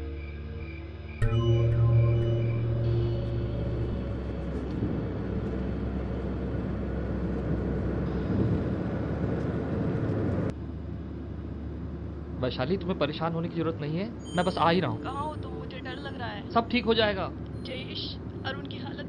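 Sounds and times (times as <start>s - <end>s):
car engine and tyre rumble: 1.4s - 19.0s.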